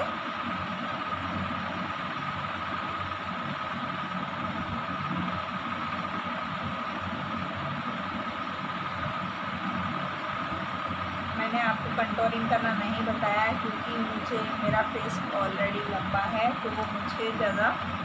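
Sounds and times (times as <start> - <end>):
machine low hum: 0.0 - 18.0
machine whine: 0.0 - 18.0.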